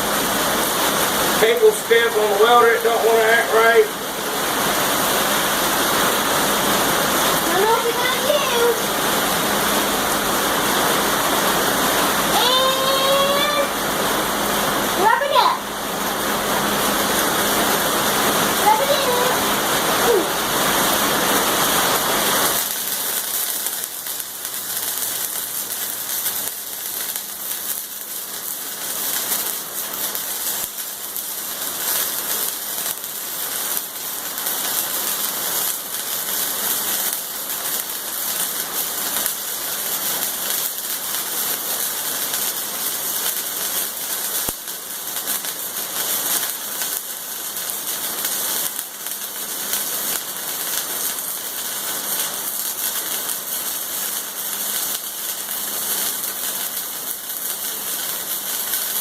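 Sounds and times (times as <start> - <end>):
welding arc crackling and sizzling: 0.0 - 59.0.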